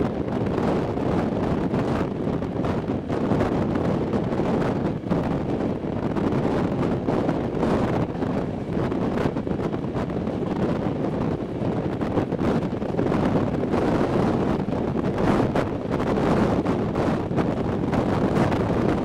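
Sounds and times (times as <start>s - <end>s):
train rumbling on track: 0.0s - 19.0s
wind buffeting microphone: 0.0s - 19.0s.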